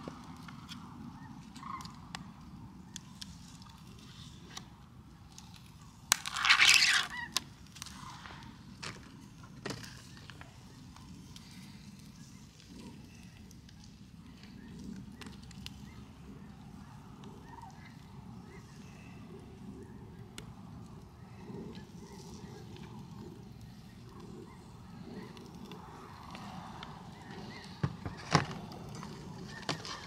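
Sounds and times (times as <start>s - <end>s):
fire popping and crackling: 0.0s - 30.0s.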